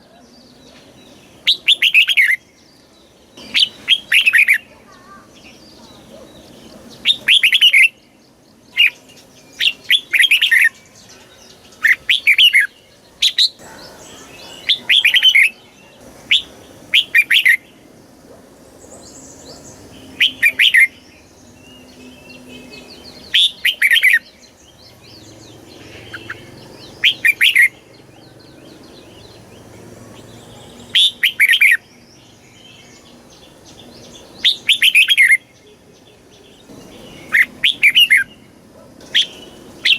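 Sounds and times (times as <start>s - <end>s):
bird singing warbling phrases: 0.0s - 39.9s.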